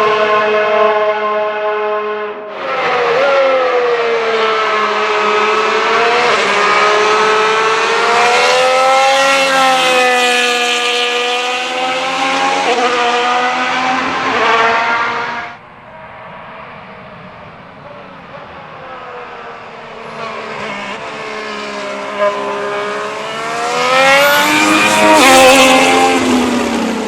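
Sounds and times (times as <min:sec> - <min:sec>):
racing car engine at high revs: 0:00.0 - 0:15.6, 0:16.2 - 0:27.0.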